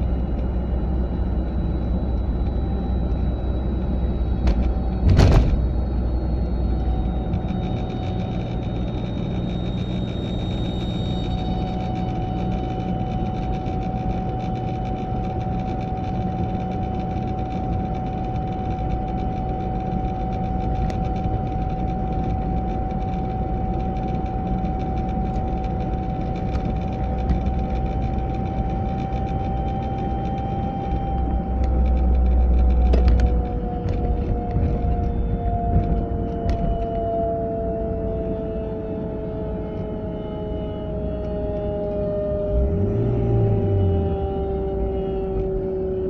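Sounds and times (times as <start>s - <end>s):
road and drivetrain rumble: 0.0s - 46.0s
steady whine: 0.0s - 46.0s.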